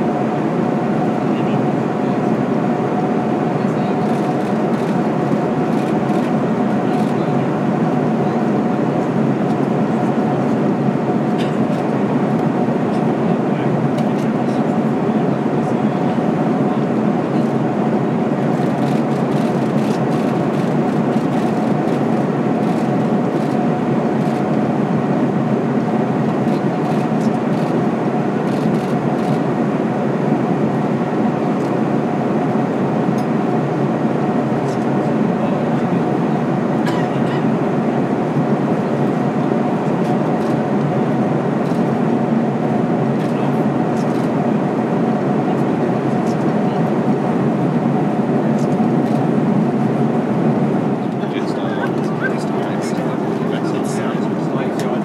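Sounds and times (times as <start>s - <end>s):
airflow and engine noise: 0.0s - 55.0s.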